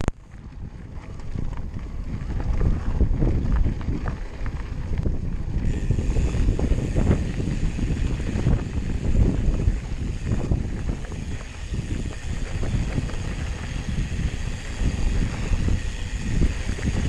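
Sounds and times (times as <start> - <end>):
low rumble of bike: 0.0 - 17.0
wind buffeting microphone: 0.1 - 17.0
bike knocks and rattles: 0.3 - 17.0.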